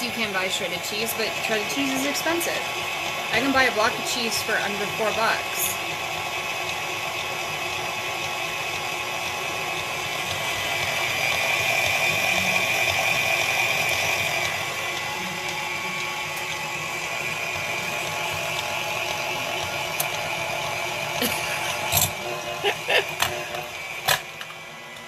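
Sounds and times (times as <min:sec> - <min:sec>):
stand mixer motor whine: 0:00.0 - 0:25.0.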